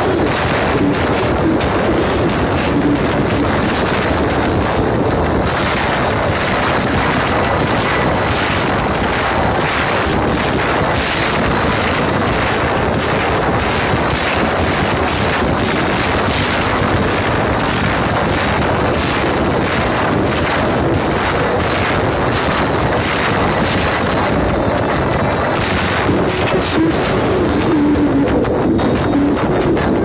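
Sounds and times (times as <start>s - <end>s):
live band through loud speakers: 0.0s - 30.0s.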